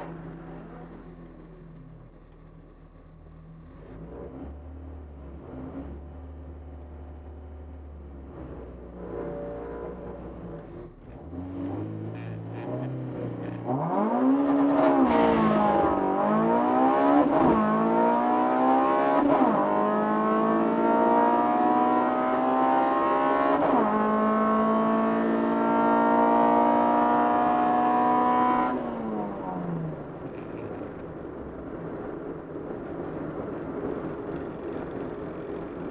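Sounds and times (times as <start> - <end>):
car engine accelerating: 0.0 - 30.6.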